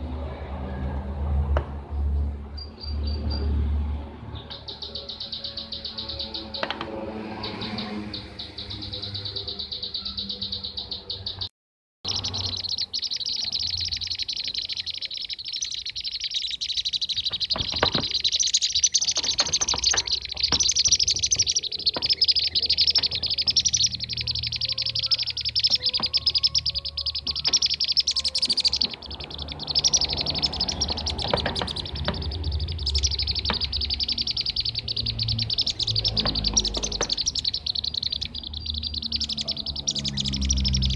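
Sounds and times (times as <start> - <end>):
flock of birds chirping rapidly: 2.6 - 11.5, 12.1 - 40.9.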